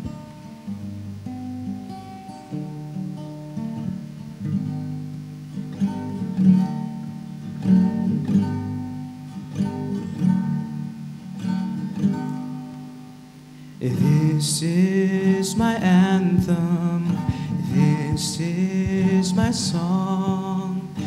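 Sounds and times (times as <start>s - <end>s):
slow acoustic guitar chords: 0.0s - 21.0s.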